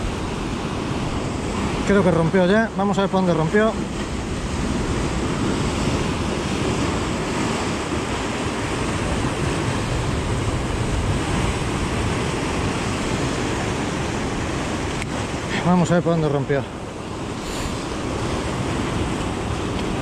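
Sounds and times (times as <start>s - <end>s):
surf washing over rocks: 0.0s - 20.0s
wind: 0.0s - 20.0s.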